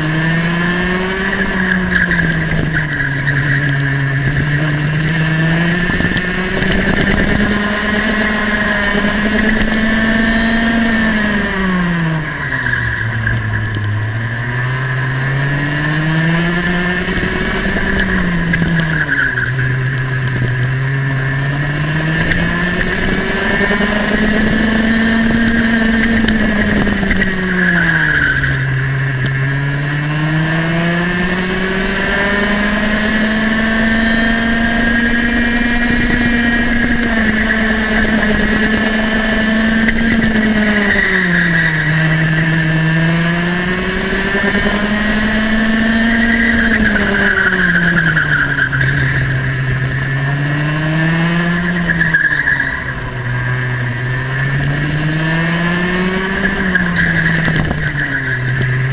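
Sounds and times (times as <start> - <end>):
kart engine revving: 0.0 - 58.9.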